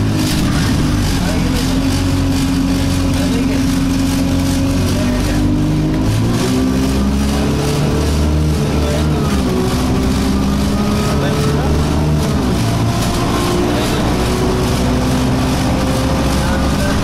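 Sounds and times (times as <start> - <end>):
bus diesel engine droning: 0.0 - 17.0
vibration noise in bus body: 0.0 - 17.0.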